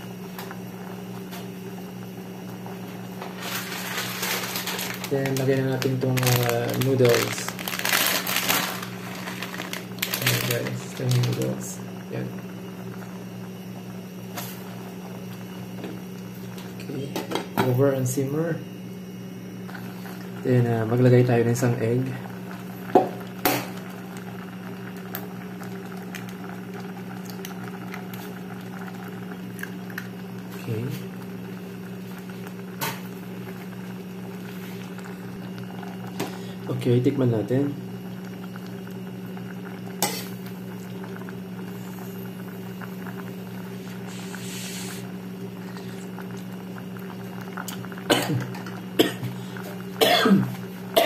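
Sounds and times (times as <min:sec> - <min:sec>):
pot boiling: 0:00.0 - 0:51.0
steady low hum: 0:00.0 - 0:51.0.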